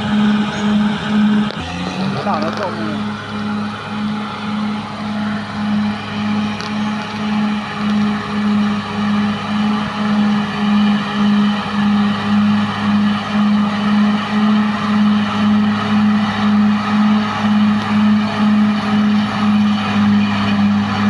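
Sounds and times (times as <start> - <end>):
bulldozer diesel engine throbbing: 0.0 - 21.0.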